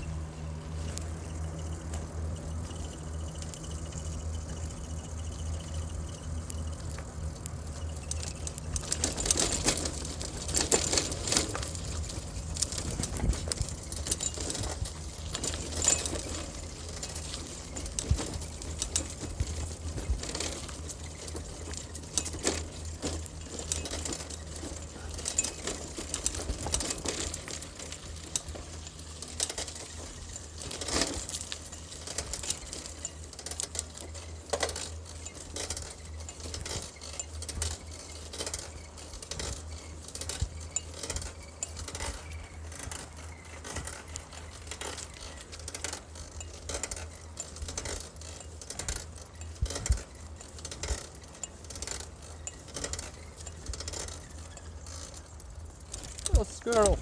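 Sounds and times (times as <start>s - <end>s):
bicycle clicking and rattling: 0.0s - 57.0s.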